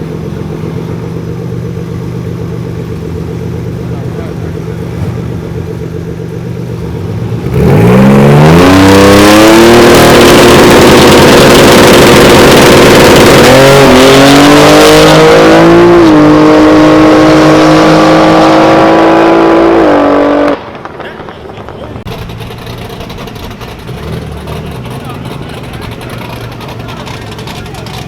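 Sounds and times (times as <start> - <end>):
car engine revving at full throttle: 0.0 - 28.0.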